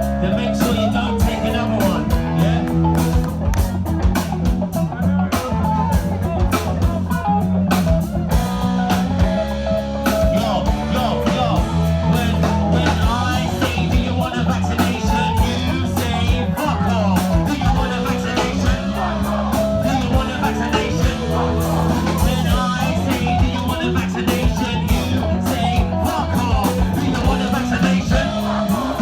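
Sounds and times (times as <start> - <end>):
blues-rock band playing: 0.0 - 29.0.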